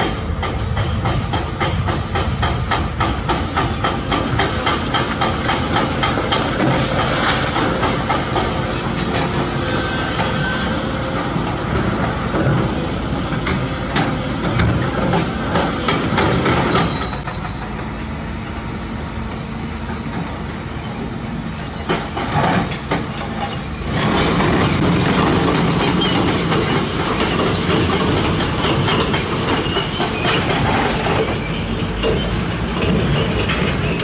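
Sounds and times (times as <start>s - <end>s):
excavator diesel engine under load: 0.0s - 34.0s.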